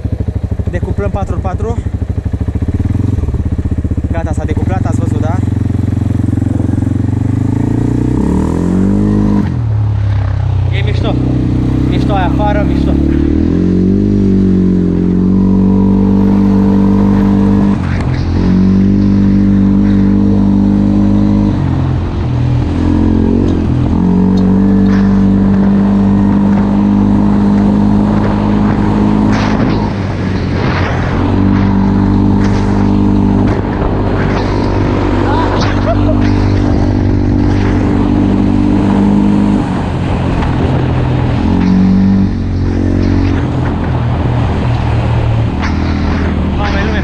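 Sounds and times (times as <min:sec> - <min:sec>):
atv engine running: 0:00.0 - 0:47.0.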